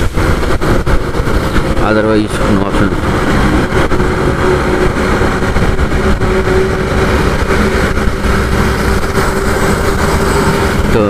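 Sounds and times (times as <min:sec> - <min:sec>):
motorcycle engine hum: 0:00.0 - 0:11.0
wind rumble on microphone: 0:00.0 - 0:11.0.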